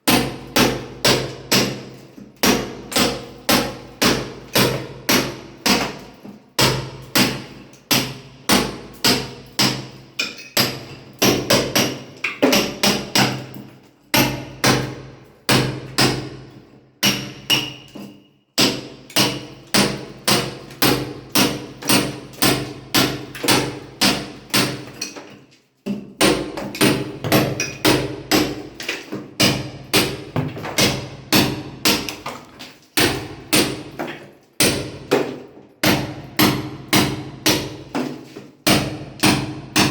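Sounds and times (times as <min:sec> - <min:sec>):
hammer striking masonry: 0:00.0 - 0:32.4, 0:33.0 - 0:39.9.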